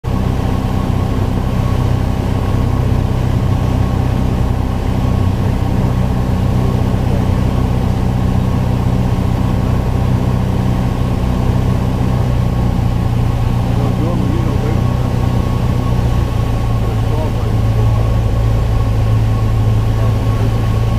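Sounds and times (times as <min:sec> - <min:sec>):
aircraft engine and propeller droning: 0:00.0 - 0:20.9.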